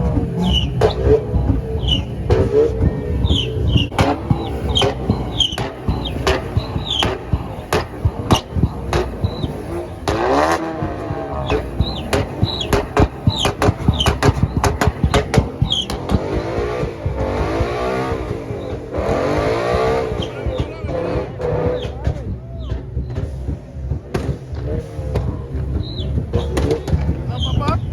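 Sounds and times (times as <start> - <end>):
car engines revving: 0.0 - 27.9
tire squeals: 0.0 - 27.9.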